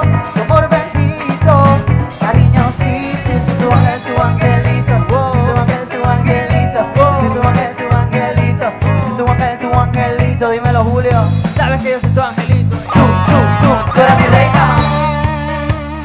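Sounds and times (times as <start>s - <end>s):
live band playing tropical music: 0.0s - 16.0s.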